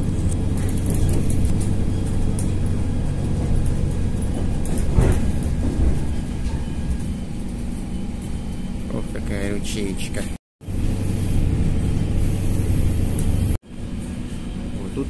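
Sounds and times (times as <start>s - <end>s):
train engine drone: 0.0s - 15.0s
train wheel rumble with clicks: 0.0s - 15.0s.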